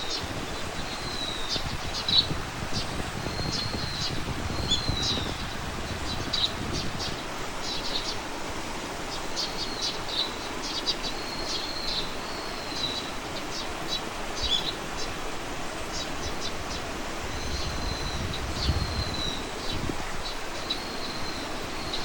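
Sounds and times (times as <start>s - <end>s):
outdoor ambience hiss: 0.0s - 22.0s
small songbirds chirping: 0.0s - 22.0s.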